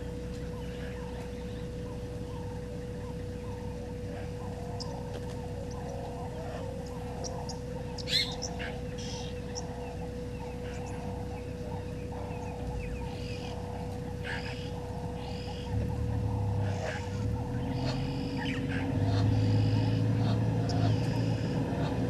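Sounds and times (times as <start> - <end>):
birds chirping and calling: 0.0 - 22.0
faint hum: 0.0 - 22.0
low rumble: 0.0 - 22.0.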